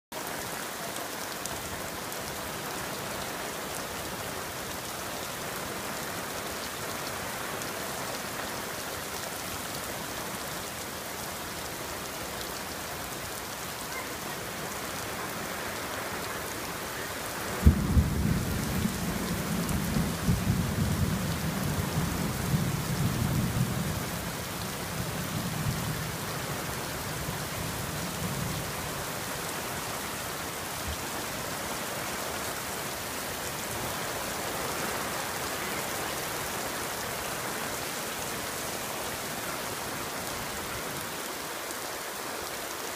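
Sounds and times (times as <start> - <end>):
heavy rain falling: 0.1 - 42.9.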